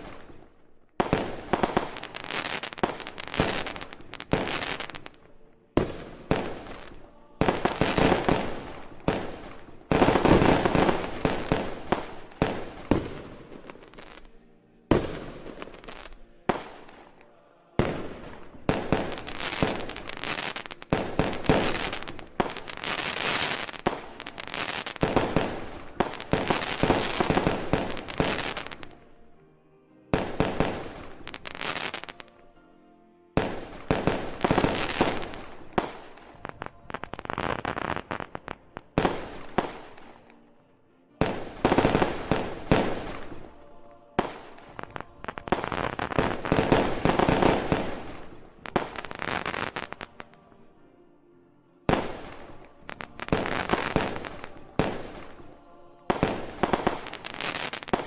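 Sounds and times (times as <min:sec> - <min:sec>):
fireworks bursting: 0:00.0 - 0:29.2, 0:30.1 - 0:32.4, 0:33.4 - 0:40.4, 0:41.2 - 0:50.4, 0:51.9 - 0:58.0.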